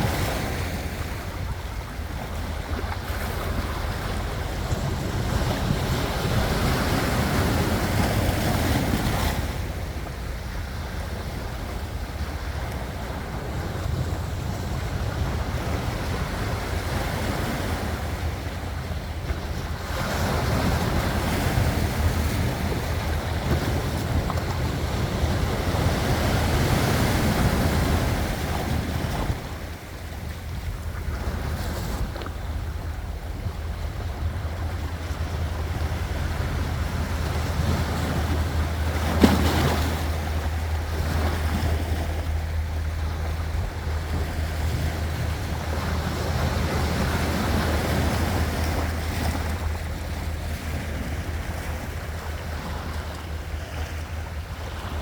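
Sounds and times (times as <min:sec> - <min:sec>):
sea waves breaking: 0:00.0 - 0:55.0
wind rumble on microphone: 0:00.0 - 0:55.0.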